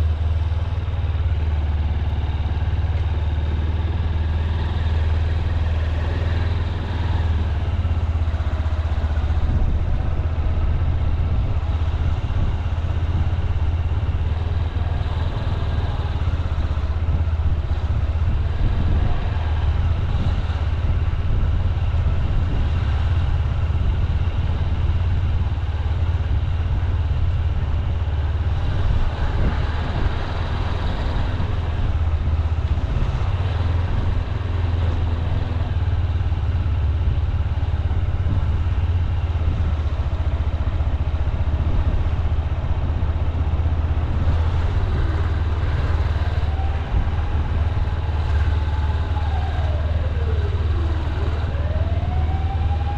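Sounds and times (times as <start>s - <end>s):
motorcycle engine running at low speed: 0.0s - 52.9s.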